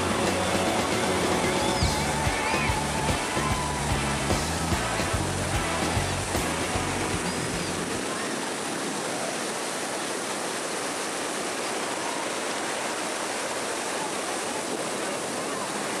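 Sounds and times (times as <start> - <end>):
faint distant crowd voices: 0.0 - 16.0
ocean surf breaking: 0.0 - 16.0.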